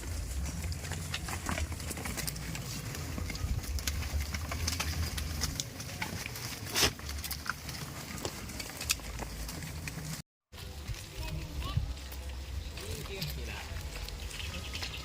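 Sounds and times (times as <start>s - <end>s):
goats moving about: 0.0s - 15.0s.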